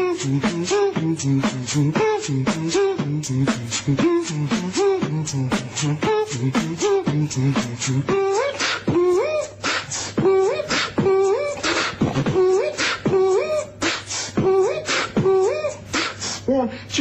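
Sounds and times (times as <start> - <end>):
beatboxing kick and snare: 0.0 - 16.4.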